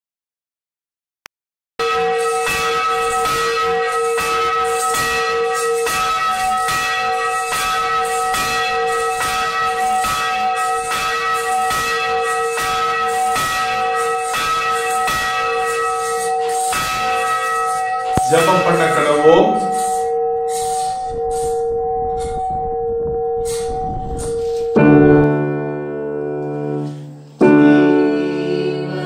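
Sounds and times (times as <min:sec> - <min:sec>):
church bell ringing: 0:01.8 - 0:29.0.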